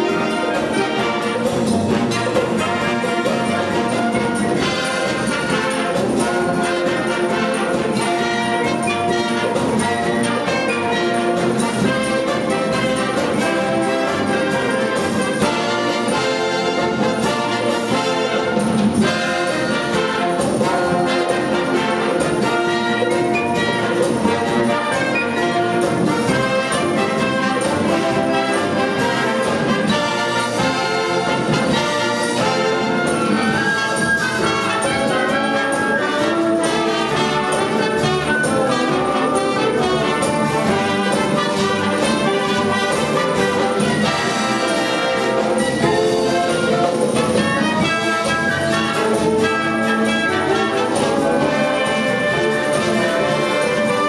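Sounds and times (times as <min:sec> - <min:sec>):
wind band playing: 0:00.0 - 0:54.0.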